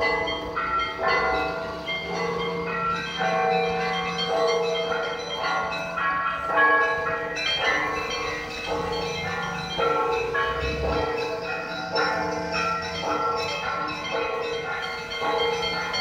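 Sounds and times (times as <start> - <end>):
church bells ringing a peal: 0.0 - 16.0.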